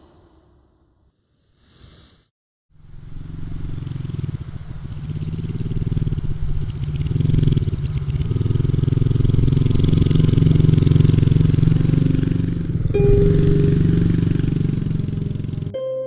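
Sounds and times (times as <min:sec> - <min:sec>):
motorcycle engine idling: 0:02.8 - 0:15.7.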